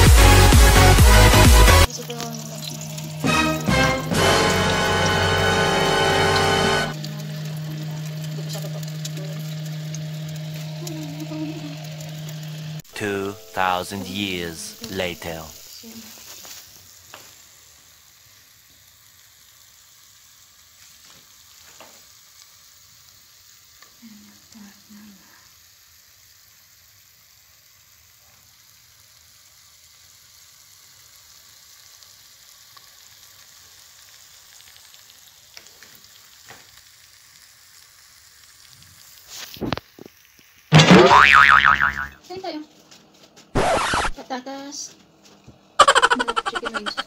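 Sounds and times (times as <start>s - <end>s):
food sizzling on baking tray: 0.0s - 47.0s.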